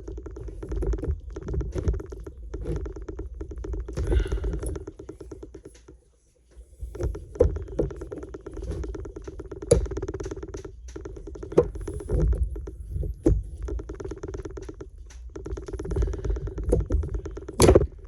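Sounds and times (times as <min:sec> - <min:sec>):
rapid buzzing rattle: 0:00.0 - 0:18.0.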